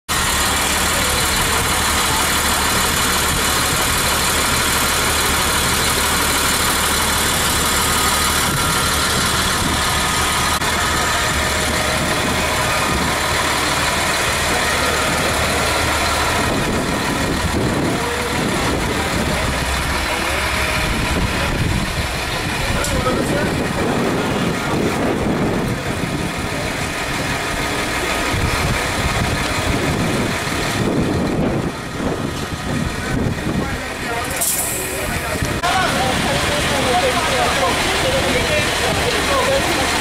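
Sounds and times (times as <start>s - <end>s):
fire engine running: 0.0s - 40.0s.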